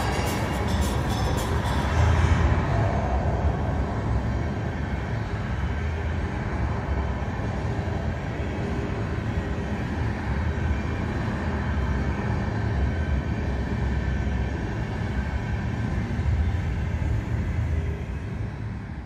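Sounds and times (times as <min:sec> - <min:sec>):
deep rumble of moving train: 0:00.0 - 0:19.0.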